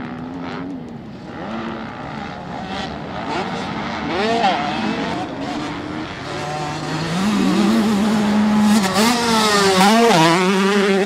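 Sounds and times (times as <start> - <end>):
bike passing close: 0.0 - 11.0
motocross bike engines revving: 0.0 - 11.0.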